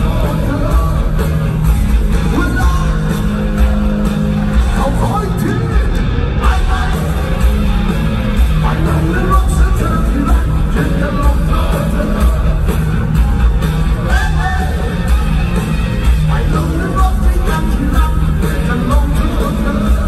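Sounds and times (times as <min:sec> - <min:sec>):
live rock band: 0:00.0 - 0:20.0
singer's voice: 0:00.0 - 0:20.0.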